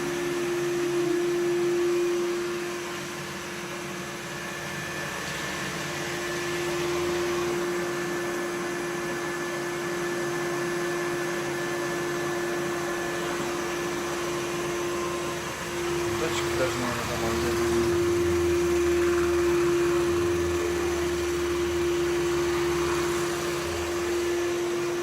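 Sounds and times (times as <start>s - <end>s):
robot vacuum running: 0.0s - 25.0s.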